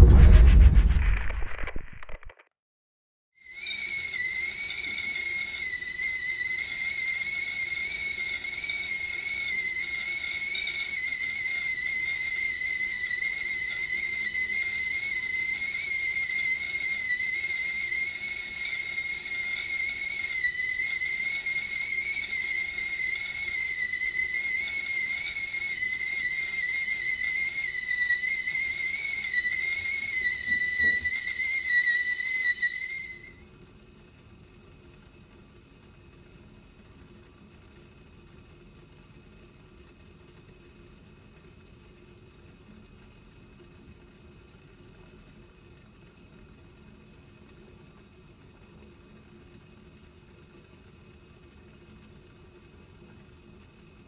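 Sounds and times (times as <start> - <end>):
kettle whistling: 3.4 - 54.0.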